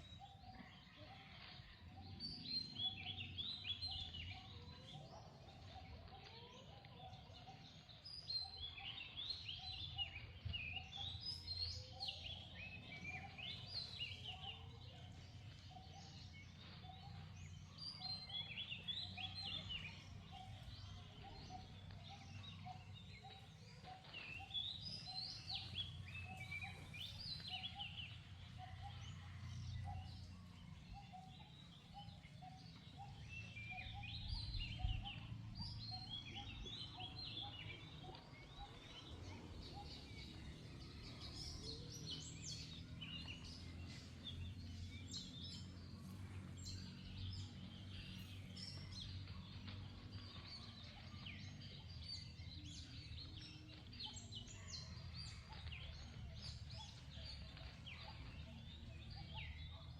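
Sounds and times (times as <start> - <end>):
birds chirping high calls: 0.0 - 59.9.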